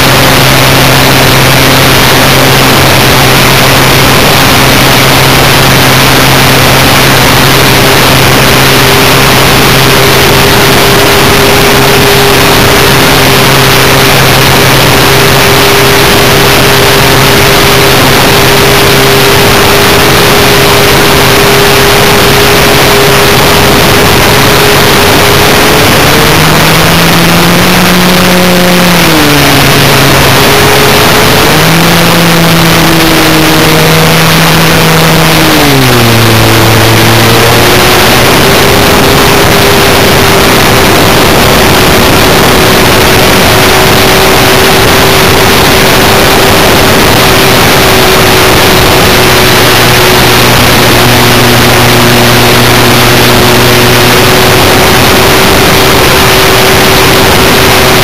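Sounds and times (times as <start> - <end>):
motor humming: 0.0 - 58.0
rushing wind and propeller noise: 0.0 - 58.0.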